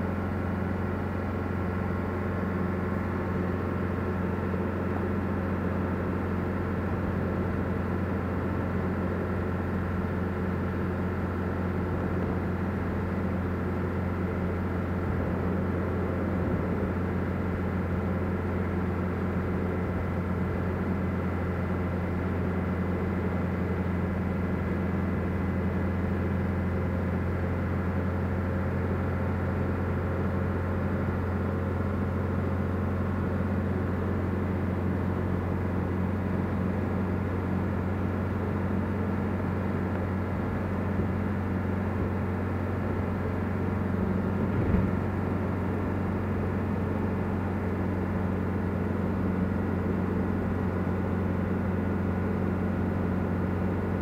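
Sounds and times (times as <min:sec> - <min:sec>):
diesel engine droning in cabin: 0:00.0 - 0:54.0.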